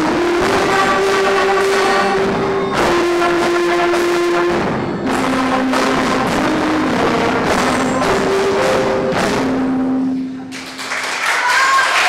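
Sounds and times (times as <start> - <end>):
bass drum strikes: 0.0 - 10.4
cymbal strikes: 0.0 - 10.5
brass notes: 0.0 - 10.6.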